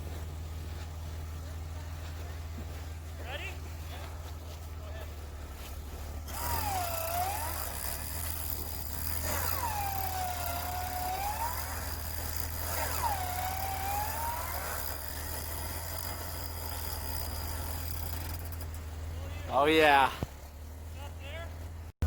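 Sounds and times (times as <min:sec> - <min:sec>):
engine idling: 0:00.0 - 0:21.9
winch motor whine: 0:00.0 - 0:21.9.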